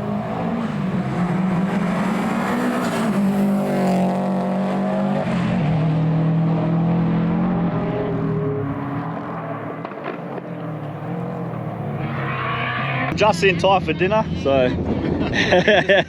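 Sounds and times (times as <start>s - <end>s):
rally cars racing past: 0.0s - 15.0s.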